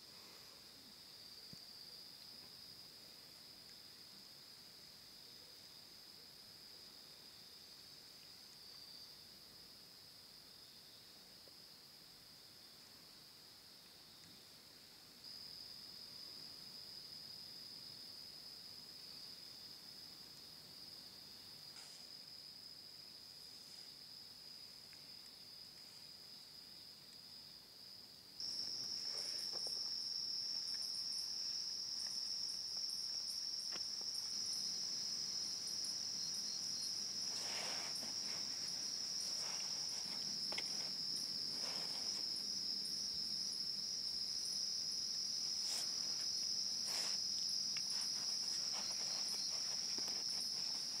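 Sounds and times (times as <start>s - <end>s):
night insects trilling: 0.0s - 51.0s.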